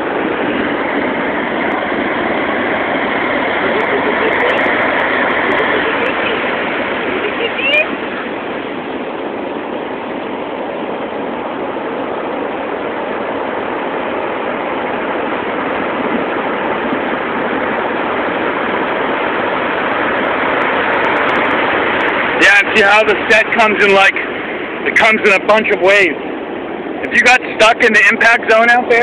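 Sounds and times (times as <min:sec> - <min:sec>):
heavy surf breaking: 0:00.0 - 0:29.0.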